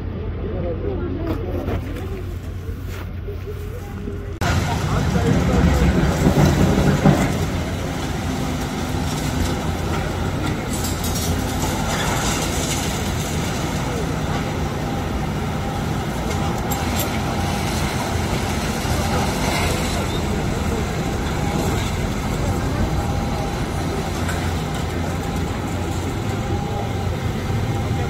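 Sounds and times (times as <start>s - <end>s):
excavator diesel engines rumbling: 0.0s - 28.0s.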